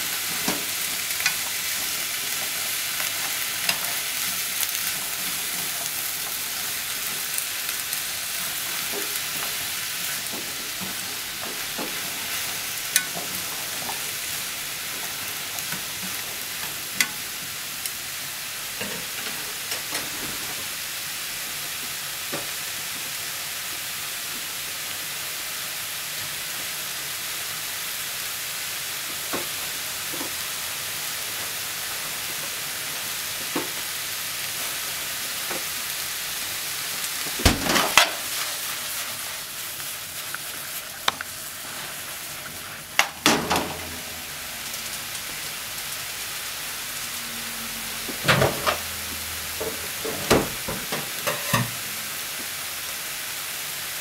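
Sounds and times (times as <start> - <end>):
vegetables sizzling in a frying pan: 0.0 - 54.0.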